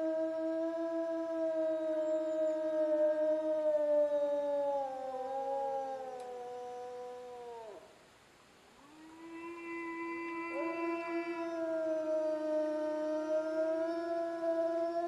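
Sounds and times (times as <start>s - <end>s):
wolves howling: 0.0s - 7.9s, 8.8s - 15.0s.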